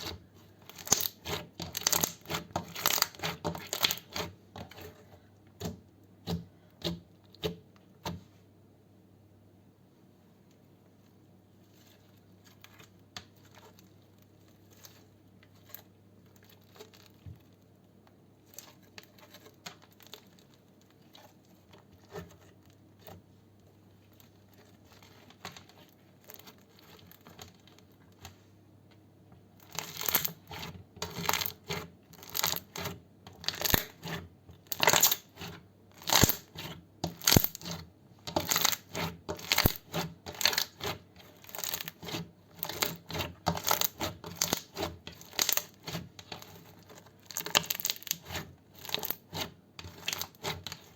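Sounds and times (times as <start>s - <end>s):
slime squishing and crackling: 0.0s - 5.1s, 11.7s - 28.3s, 29.6s - 50.9s.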